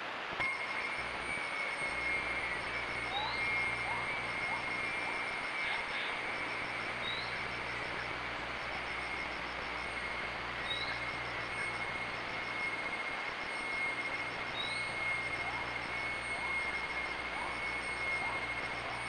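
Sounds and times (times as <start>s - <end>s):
high-pitched drone: 0.4s - 19.0s.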